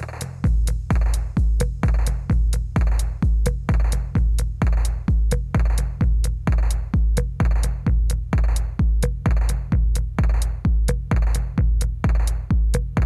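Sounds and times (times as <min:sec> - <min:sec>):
electronic music with drum beat: 0:00.0 - 0:13.0.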